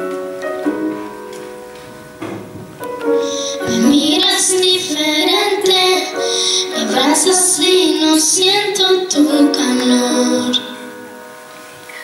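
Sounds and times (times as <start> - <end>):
held accompaniment chords: 0.0 - 12.0.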